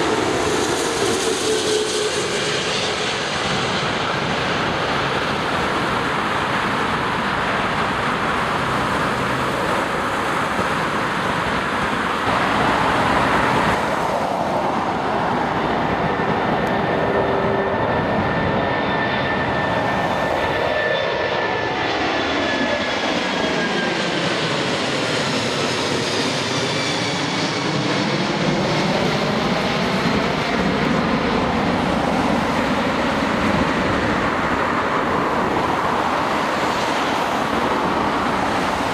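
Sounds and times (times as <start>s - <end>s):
jet airliner roaring past: 0.0s - 38.9s.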